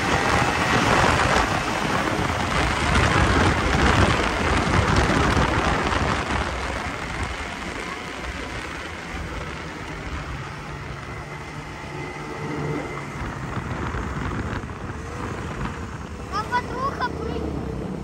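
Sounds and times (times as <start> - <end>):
continuous rushing noise: 0.0 - 18.0
snowmobile engine running: 0.0 - 18.0.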